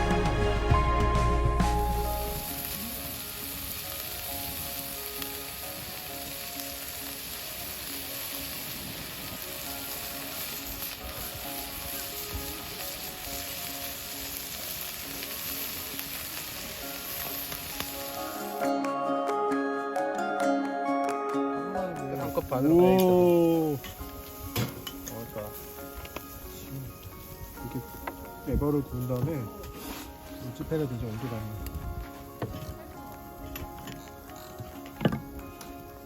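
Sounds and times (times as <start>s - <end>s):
soft background music: 0.0s - 36.0s
food sizzling in a pan: 1.3s - 18.7s, 22.2s - 36.0s.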